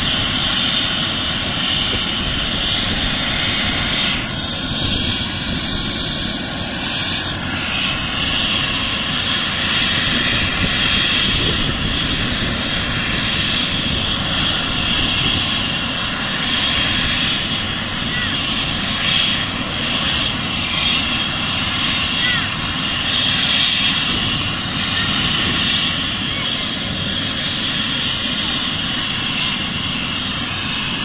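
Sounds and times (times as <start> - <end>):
helicopter turbine whine: 0.0 - 31.0
rush of helicopter rotors: 0.0 - 31.0.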